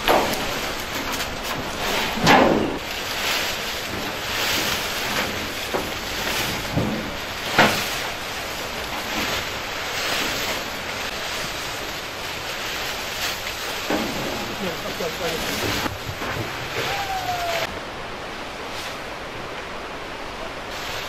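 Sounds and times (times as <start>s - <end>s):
leafy branches rustling: 0.0s - 21.0s.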